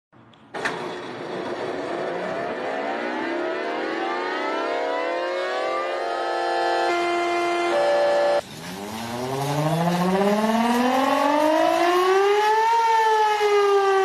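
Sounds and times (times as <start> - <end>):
siren rising in pitch: 1.8 - 14.0.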